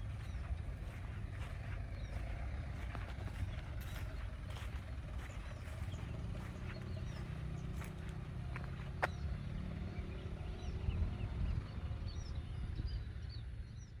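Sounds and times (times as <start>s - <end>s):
steady low rumble: 0.0s - 13.2s
small birds chirping: 0.0s - 14.0s.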